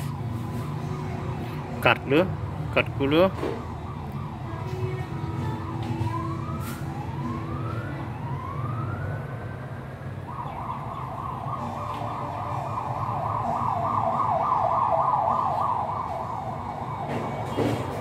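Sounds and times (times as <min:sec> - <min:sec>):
emergency vehicle siren: 0:00.0 - 0:18.0.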